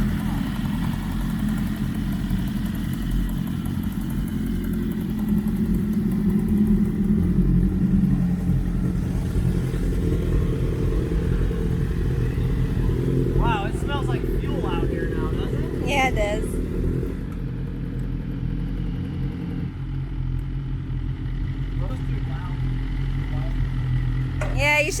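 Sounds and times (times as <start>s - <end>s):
motorcycles idling: 0.0s - 25.0s.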